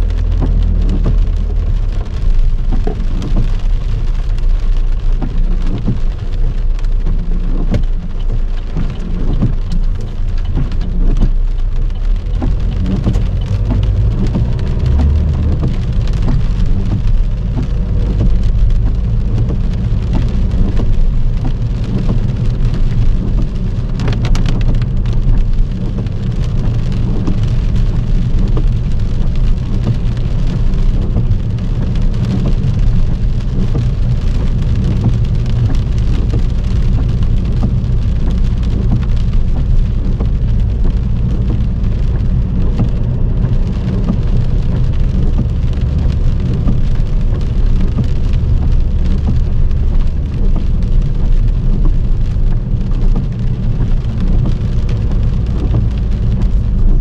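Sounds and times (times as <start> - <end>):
continuous low rumble: 0.0 - 57.0
heavy rain drumming on car: 0.0 - 57.0.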